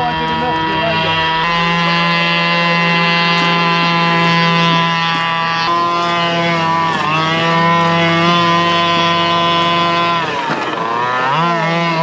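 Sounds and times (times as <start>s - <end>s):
rc car engine revving: 0.0s - 12.0s.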